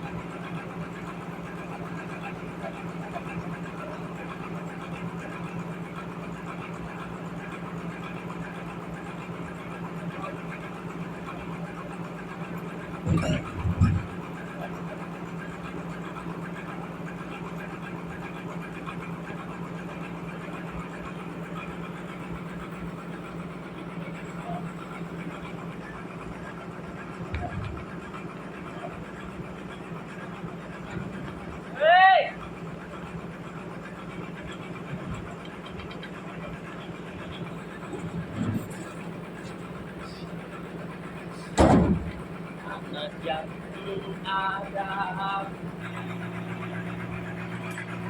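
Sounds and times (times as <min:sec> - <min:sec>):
sawmill machinery humming: 0:00.0 - 0:48.0.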